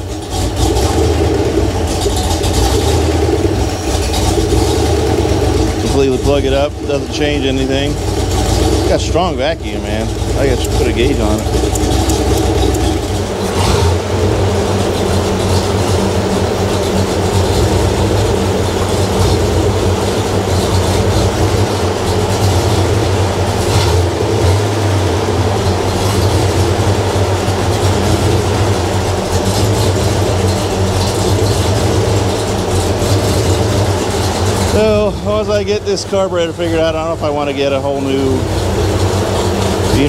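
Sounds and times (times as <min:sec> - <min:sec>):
car engine idling with surge: 0:00.0 - 0:40.0.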